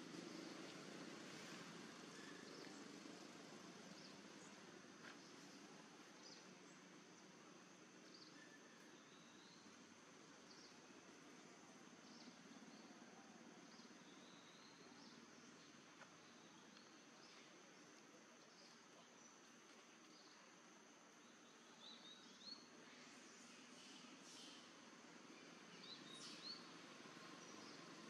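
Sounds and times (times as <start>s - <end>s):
insect drone: 0.0s - 28.0s.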